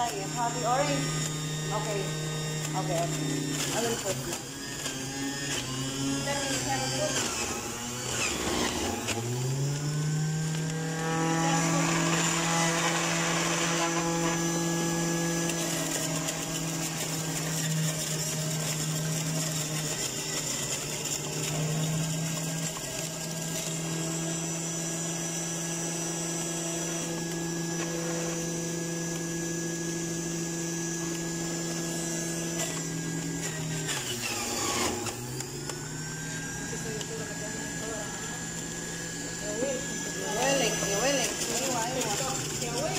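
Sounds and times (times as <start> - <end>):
produce being shredded: 0.0 - 30.3, 31.0 - 42.9
juicer motor humming: 0.0 - 42.9.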